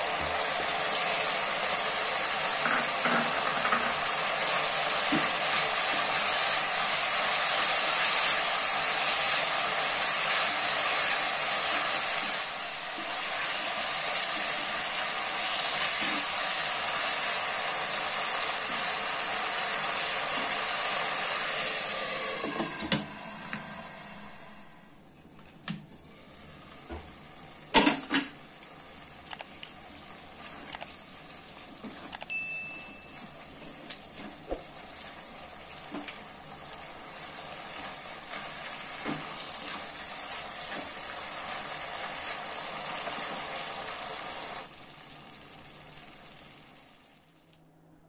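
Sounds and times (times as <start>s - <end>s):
food sizzling in a wok: 0.0s - 25.0s, 26.1s - 47.4s.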